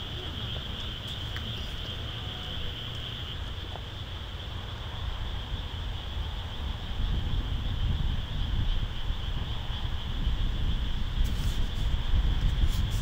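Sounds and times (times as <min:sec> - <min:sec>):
night insects buzzing: 0:00.0 - 0:13.0.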